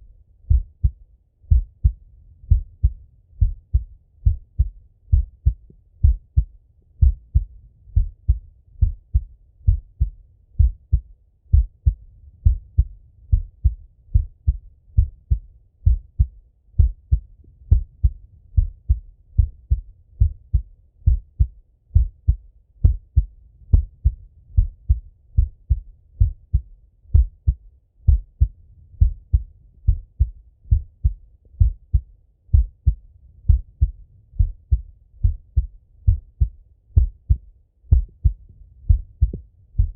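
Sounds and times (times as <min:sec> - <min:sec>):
heartbeat thuds: 0:00.5 - 0:39.9.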